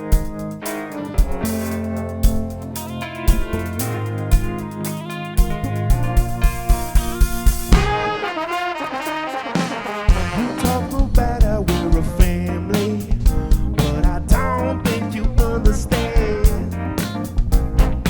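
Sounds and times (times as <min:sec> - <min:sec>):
horns playing melody: 0:00.0 - 0:13.0, 0:14.3 - 0:18.0
soul band playing: 0:00.0 - 0:18.0.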